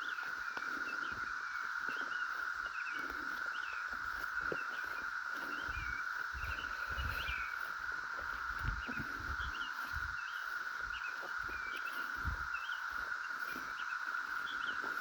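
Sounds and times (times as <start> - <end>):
bird chirps: 0.0 - 15.0
cicadas droning: 0.0 - 15.0.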